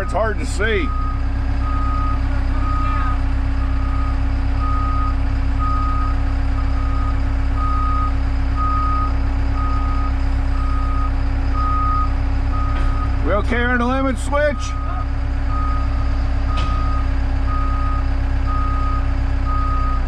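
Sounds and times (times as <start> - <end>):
diesel engine running: 0.0 - 20.0
backup alarm beeping: 0.7 - 13.3, 14.5 - 20.0.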